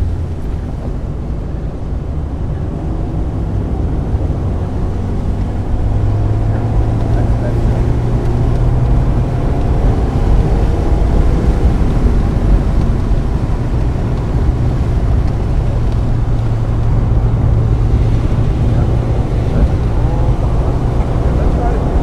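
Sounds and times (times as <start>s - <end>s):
car engine running under load: 0.0s - 22.0s.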